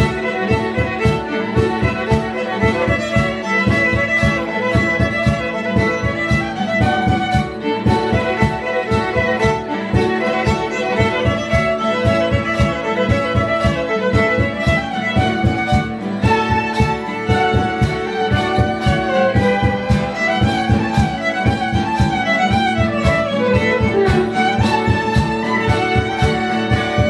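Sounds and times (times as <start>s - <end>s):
live instrumental music: 0.0s - 27.0s.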